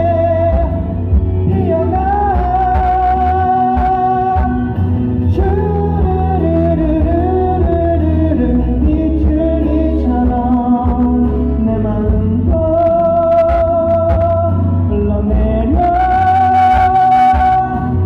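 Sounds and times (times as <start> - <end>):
instrumental accompaniment: 0.0 - 18.0
person singing: 0.0 - 18.0
steady bass: 0.0 - 18.0.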